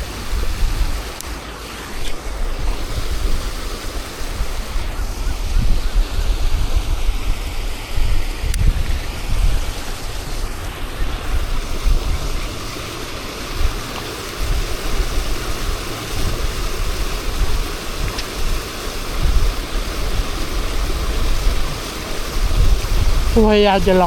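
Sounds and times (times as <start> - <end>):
rushing water: 0.0 - 24.0
wind buffeting microphone: 0.0 - 24.0.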